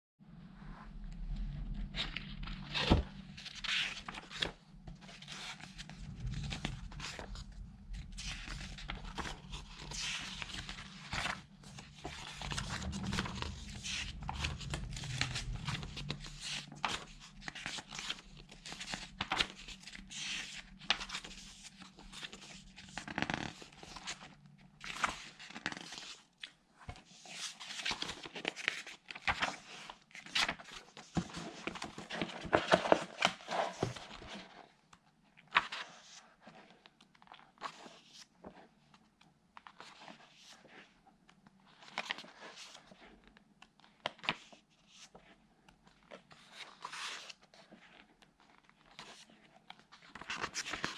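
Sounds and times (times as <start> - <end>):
book pages turning: 1.8 - 50.9.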